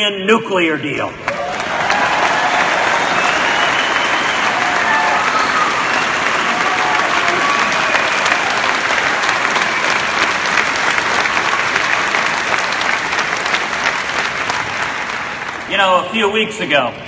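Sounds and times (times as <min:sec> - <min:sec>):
crowd applauding: 0:01.2 - 0:16.3.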